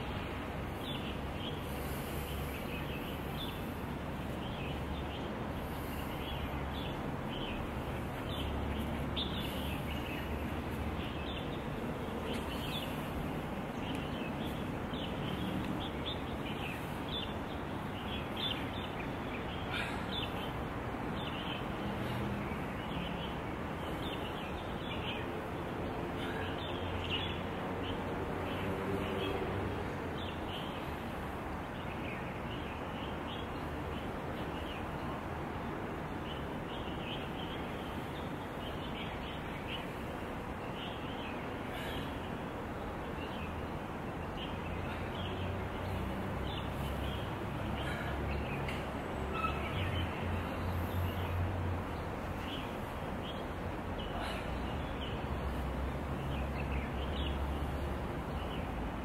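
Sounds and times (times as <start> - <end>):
birds chirping: 0.0 - 59.0
outdoor background noise: 0.0 - 59.0.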